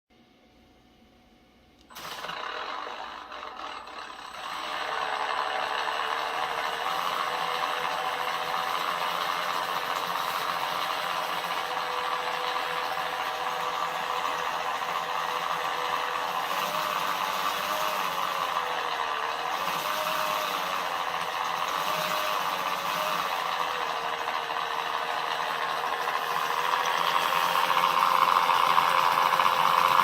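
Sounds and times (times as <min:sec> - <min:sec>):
electric whirring and rattling: 0:01.8 - 0:30.0.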